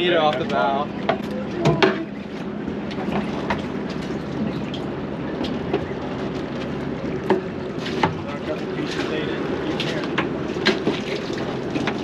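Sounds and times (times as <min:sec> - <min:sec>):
boat engine running: 0:00.0 - 0:12.0
water noise: 0:00.0 - 0:12.0.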